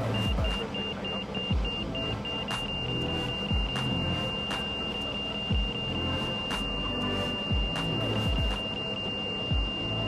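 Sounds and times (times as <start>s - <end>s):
airplane engine and cabin noise: 0.0s - 10.0s
stall warning beeping tone: 0.0s - 10.0s.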